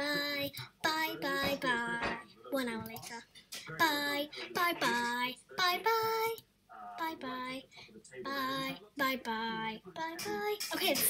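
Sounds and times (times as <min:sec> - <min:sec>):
girl singing: 0:00.0 - 0:06.4, 0:07.0 - 0:07.6, 0:08.3 - 0:11.0.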